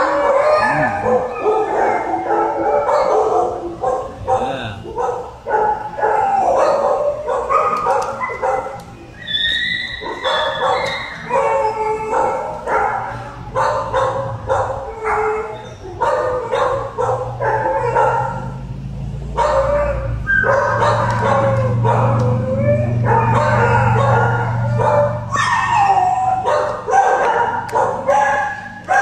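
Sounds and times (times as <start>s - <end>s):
dog whining: 0.0s - 18.5s, 19.4s - 29.0s
dogs barking and yipping: 0.0s - 29.0s.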